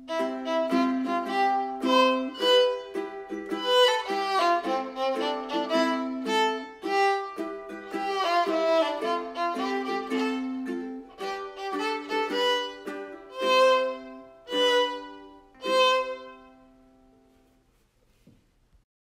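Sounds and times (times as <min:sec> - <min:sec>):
violin-led instrumental music: 0:00.0 - 0:17.2.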